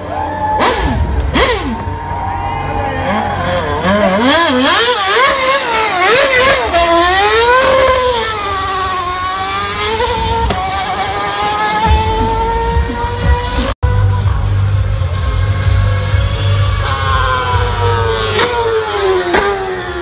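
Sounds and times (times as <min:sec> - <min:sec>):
racing car engine revving: 0:00.0 - 0:20.0.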